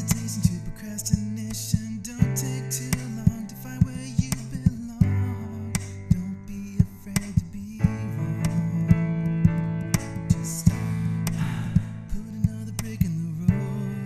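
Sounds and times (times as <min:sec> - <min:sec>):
guitar music with steady beat: 0:00.0 - 0:14.0.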